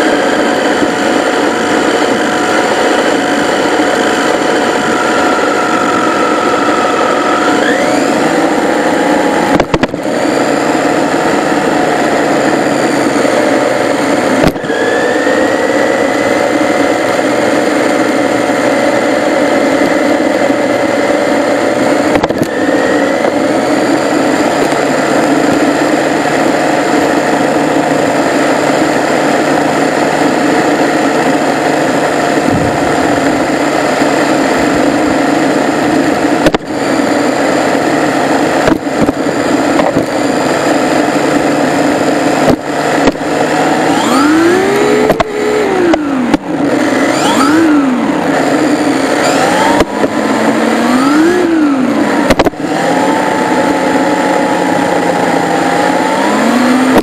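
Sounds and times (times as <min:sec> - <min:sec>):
electric motor and gears whining: 0:00.0 - 0:57.0
road and tyre noise: 0:00.0 - 0:57.0.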